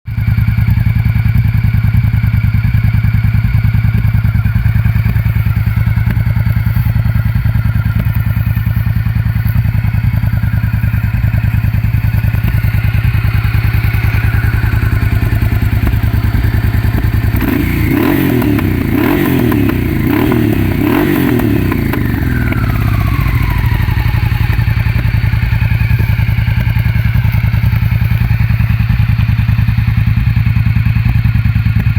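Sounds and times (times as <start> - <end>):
motorcycle engine idling and revving: 0.1 - 31.9.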